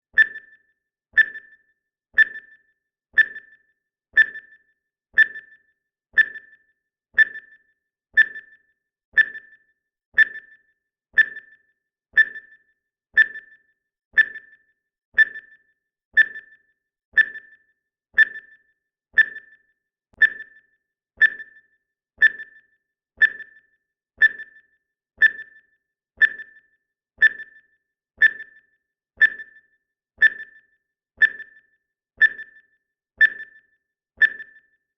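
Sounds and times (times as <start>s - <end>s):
high electronic timer tick: 0.1s - 34.9s.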